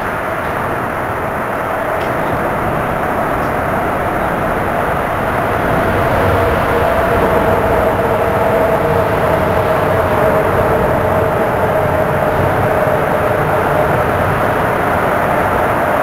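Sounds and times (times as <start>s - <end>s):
engine drone with whine: 0.0s - 16.0s
lower tone: 0.0s - 16.0s.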